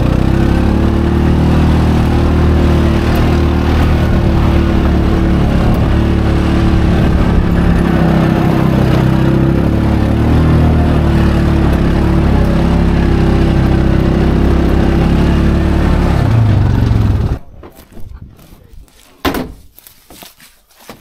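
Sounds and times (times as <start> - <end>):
off-road vehicle engine running: 0.0 - 17.5.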